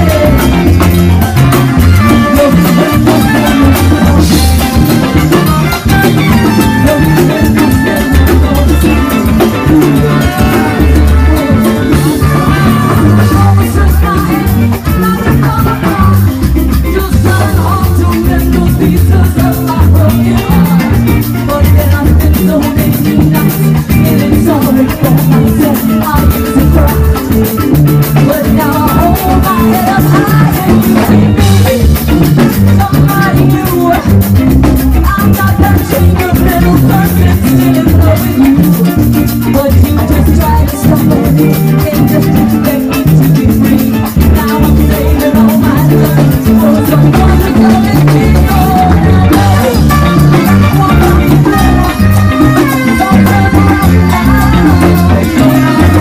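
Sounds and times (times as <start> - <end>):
live salsa band playing: 0.0 - 56.0.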